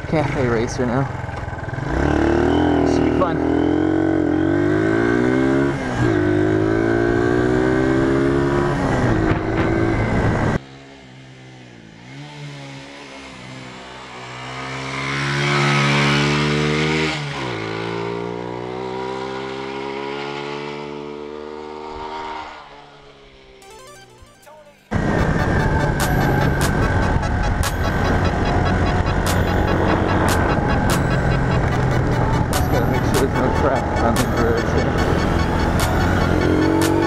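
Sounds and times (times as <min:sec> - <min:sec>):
motorcycle passing by: 0:00.0 - 0:23.6, 0:25.0 - 0:37.0
motorcycle engine accelerating: 0:00.0 - 0:23.9, 0:24.9 - 0:37.0.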